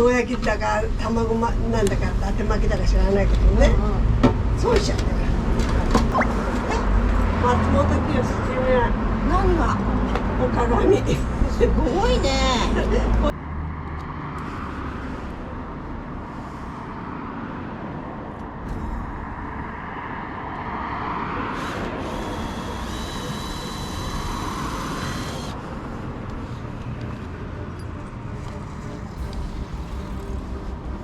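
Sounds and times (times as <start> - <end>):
road traffic rumble: 0.0 - 31.0
vehicle passing: 0.0 - 31.0.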